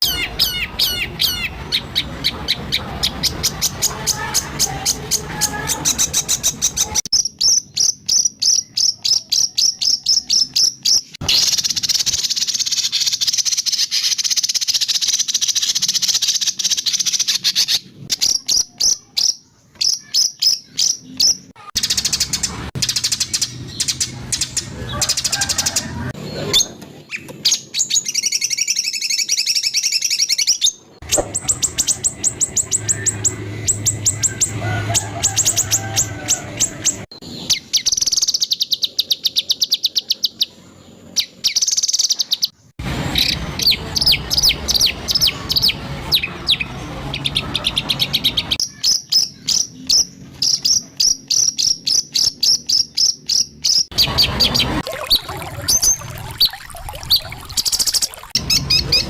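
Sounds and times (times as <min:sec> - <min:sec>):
bird song: 0:00.0 - 0:59.0.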